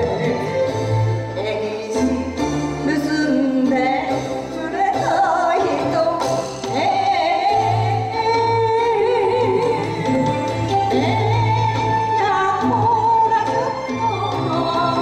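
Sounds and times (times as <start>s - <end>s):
instrumental accompaniment: 0.0s - 15.0s
woman singing with vibrato: 0.0s - 15.0s.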